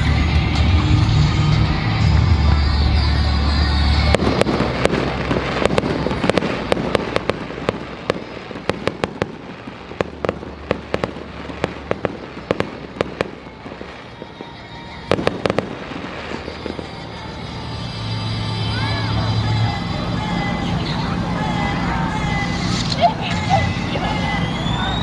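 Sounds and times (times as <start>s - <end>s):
low rumble: 0.0s - 22.9s
fireworks crackling: 0.0s - 25.0s.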